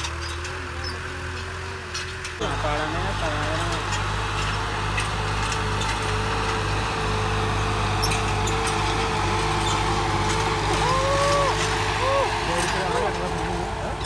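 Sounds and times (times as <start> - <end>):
tractor engine under load: 0.0 - 14.0.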